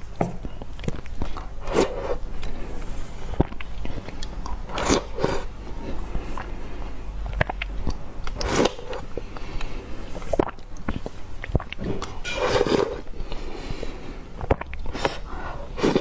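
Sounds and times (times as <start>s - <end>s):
ice being chewed: 0.4s - 16.0s.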